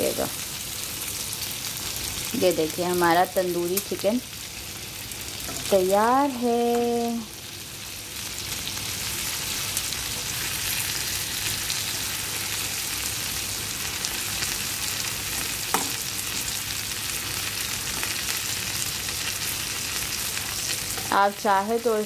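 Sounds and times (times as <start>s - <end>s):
chicken sizzling in butter: 0.0s - 22.0s.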